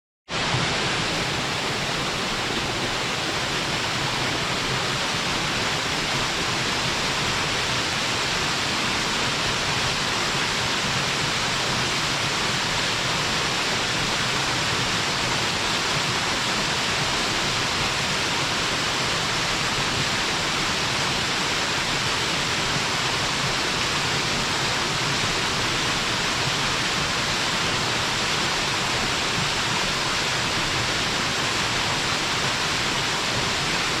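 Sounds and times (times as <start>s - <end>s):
waterfall rushing: 0.3s - 34.0s.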